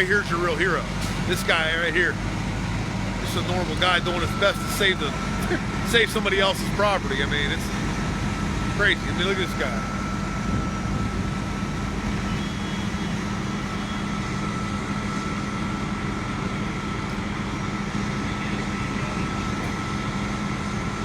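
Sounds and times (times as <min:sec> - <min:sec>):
fire truck engines droning: 0:00.0 - 0:21.0.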